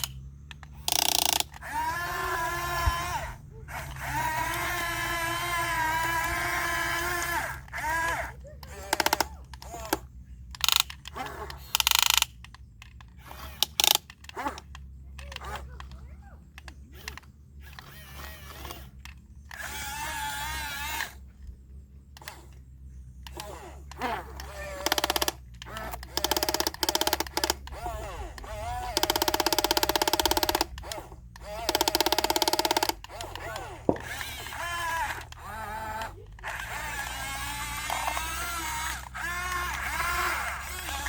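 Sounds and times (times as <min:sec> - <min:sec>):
motor whine: 0:00.0 - 0:41.0
rapid mechanical gear clicking: 0:00.0 - 0:41.0
small motors rattling: 0:00.0 - 0:41.0.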